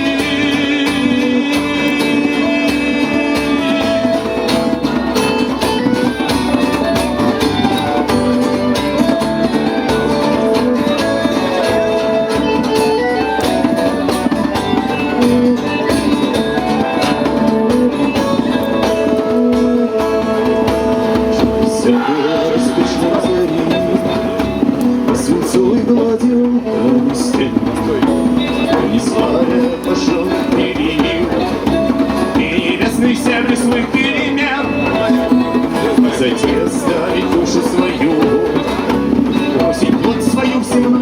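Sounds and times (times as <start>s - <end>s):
held melody notes: 0.0s - 40.8s
bass guitar: 0.0s - 41.0s
steady percussion: 0.0s - 41.0s
strummed acoustic guitar: 0.0s - 41.0s.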